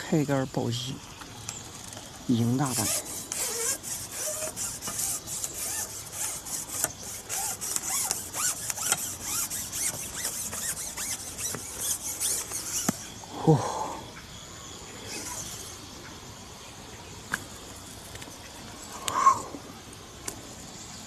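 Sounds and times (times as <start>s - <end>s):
insects pulsing buzz: 0.0s - 21.0s.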